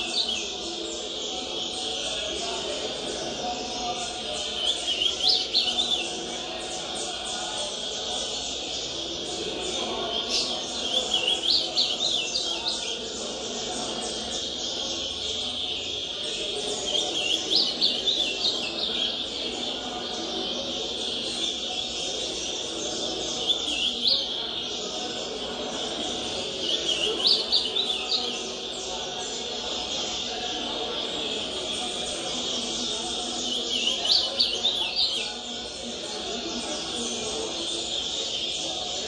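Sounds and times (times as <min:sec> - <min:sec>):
background birds from tv: 0:00.0 - 0:39.0
bird singing warbled phrases: 0:00.0 - 0:39.0
voices from tv: 0:00.0 - 0:39.0.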